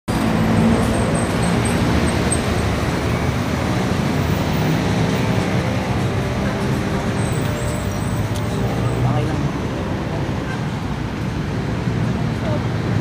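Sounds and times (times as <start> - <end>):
city road traffic: 0.0 - 13.0.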